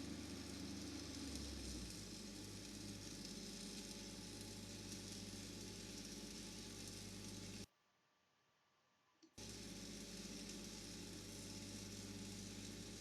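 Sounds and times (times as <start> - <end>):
steady low hum: 0.0 - 7.7, 9.3 - 13.0
welding arc crackling: 0.0 - 7.7, 9.4 - 13.0.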